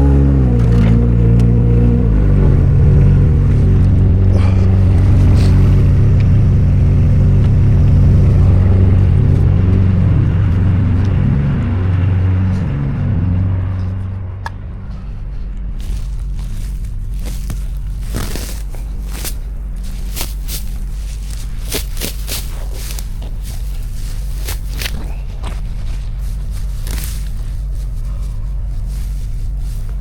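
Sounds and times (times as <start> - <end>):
farm vehicle engine running: 0.0 - 30.0.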